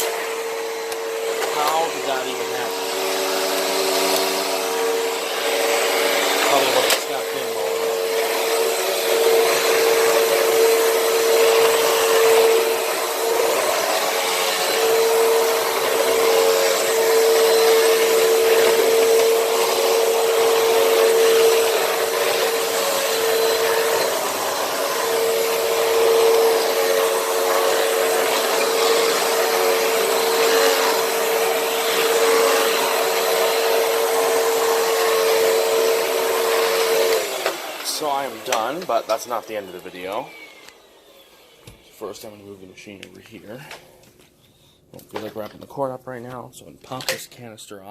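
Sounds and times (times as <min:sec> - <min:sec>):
upright vacuum cleaner running: 0:00.0 - 0:42.6.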